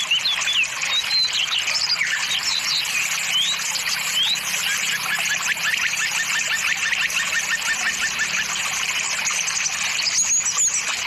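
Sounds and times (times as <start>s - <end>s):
birds chirping and calling: 0.0s - 11.0s
rapid repeated bird chirps: 0.0s - 11.0s.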